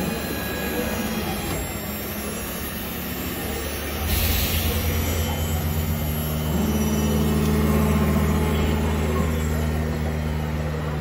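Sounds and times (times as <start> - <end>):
machine motor hum: 0.0 - 11.0.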